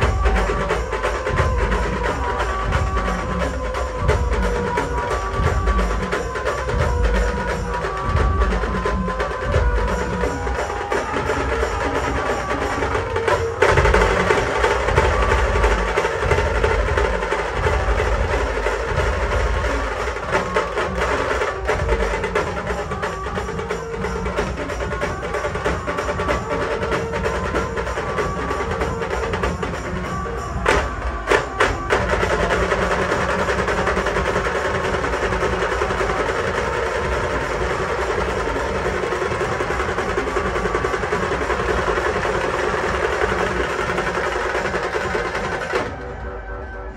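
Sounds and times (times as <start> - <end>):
percussion-heavy dance music: 0.0 - 46.0.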